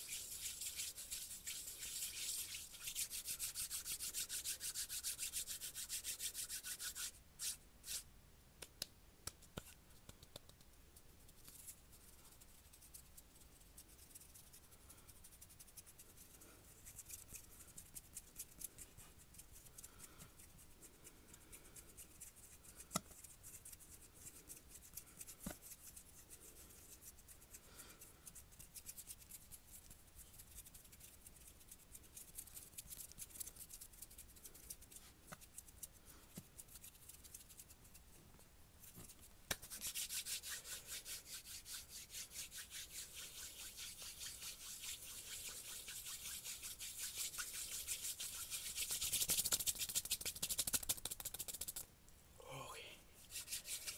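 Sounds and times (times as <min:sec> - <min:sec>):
palms rubbing briskly together: 0:00.0 - 0:08.0, 0:11.3 - 0:38.2, 0:38.8 - 0:51.8, 0:53.2 - 0:53.9
hands rubbing and brushing: 0:00.0 - 0:08.1, 0:09.3 - 0:51.9, 0:53.2 - 0:53.9.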